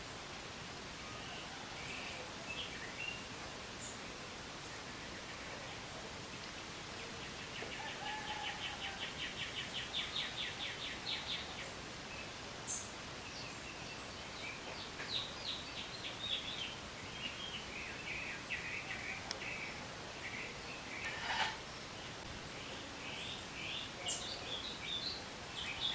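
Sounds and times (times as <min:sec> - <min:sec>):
steady background hiss: 0:00.0 - 0:25.9.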